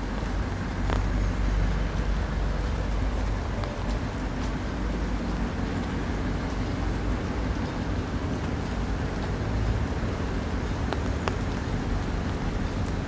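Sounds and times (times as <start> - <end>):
rain hissing: 0.0 - 13.0
vehicle engine running: 0.0 - 13.0
light ticks: 0.1 - 13.0.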